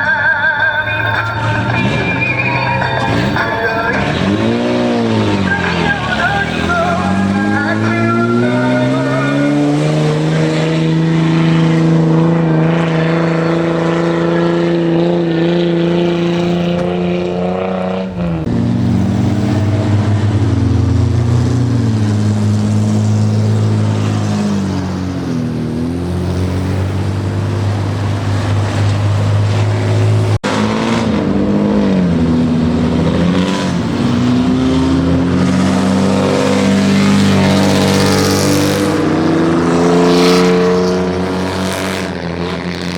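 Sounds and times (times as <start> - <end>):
car engines revving loudly: 0.0 - 42.9.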